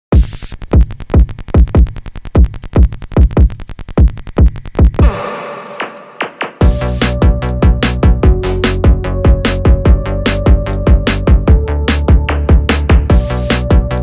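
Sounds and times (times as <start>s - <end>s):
dark techno track: 0.2s - 14.0s.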